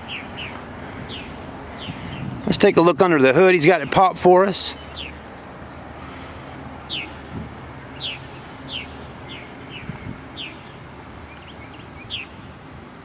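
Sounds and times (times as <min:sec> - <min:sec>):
bird chirping: 0:00.0 - 0:02.6, 0:03.6 - 0:12.7
low background hum: 0:00.0 - 0:13.0.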